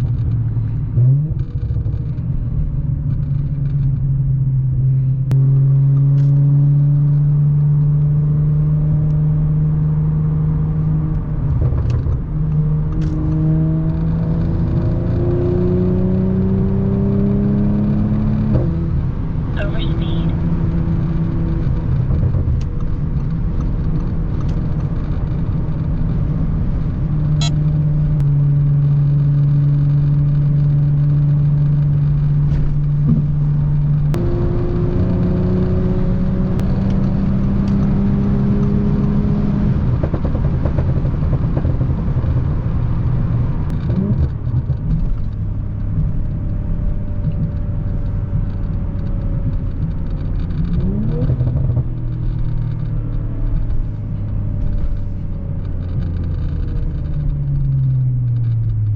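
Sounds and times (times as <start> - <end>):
car engine while driving: 0.0 - 58.9
road noise: 0.0 - 58.9.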